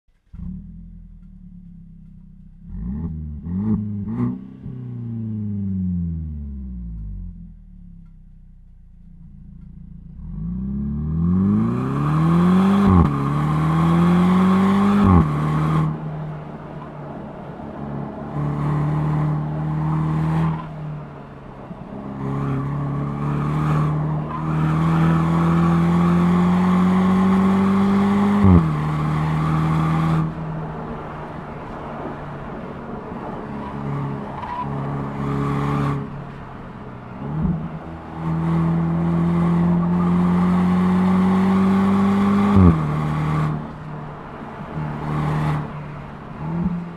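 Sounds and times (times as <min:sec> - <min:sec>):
car engine accelerating with upshifts: 0:00.1 - 0:46.9.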